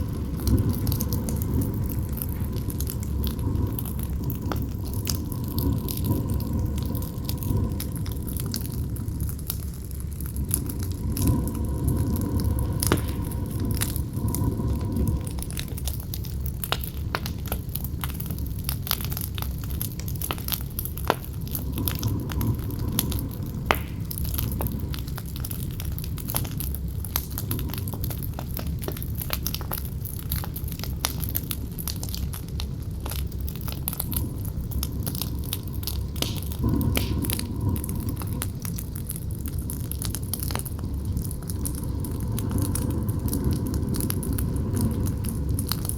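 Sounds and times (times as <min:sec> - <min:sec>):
campfire crackling and popping: 0:00.0 - 0:45.9
wind rumble: 0:00.0 - 0:45.9.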